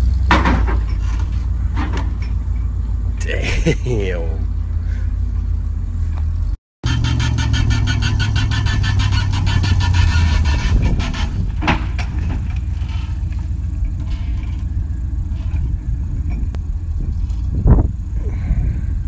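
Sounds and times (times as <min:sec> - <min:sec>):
truck engine running under load: 0:00.0 - 0:19.0.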